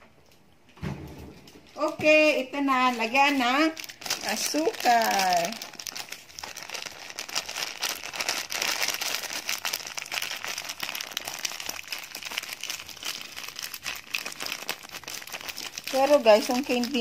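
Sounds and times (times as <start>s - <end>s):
plastic bag crinkling: 1.4s - 17.0s.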